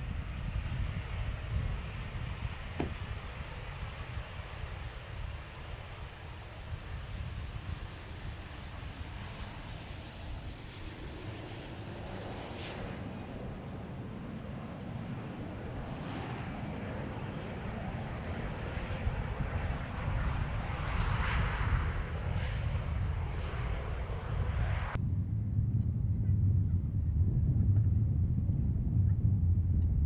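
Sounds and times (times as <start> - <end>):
wind buffeting microphone: 0.0 - 30.0
jet engines rushing: 0.8 - 30.0.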